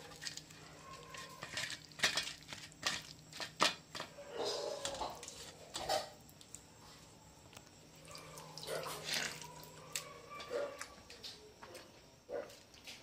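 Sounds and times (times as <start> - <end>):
hand mixing food: 0.0 - 11.7.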